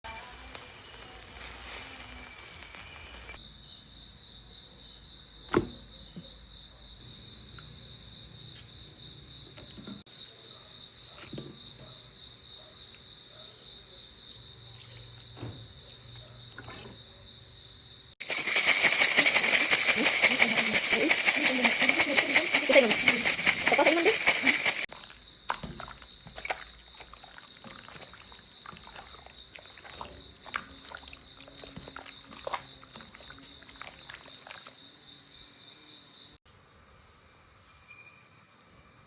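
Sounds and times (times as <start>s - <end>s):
crickets trilling: 0.1s - 39.0s.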